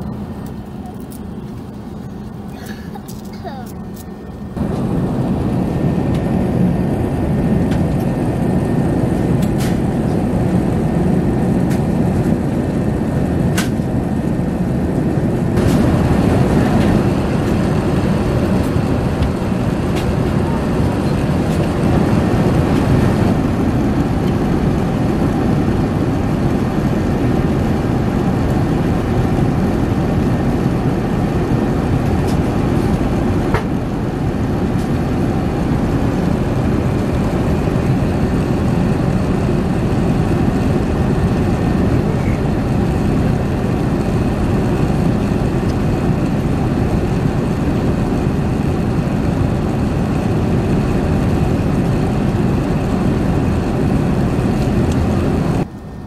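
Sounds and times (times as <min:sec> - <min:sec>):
airplane cabin airflow and engine hum: 0:00.0 - 0:56.0.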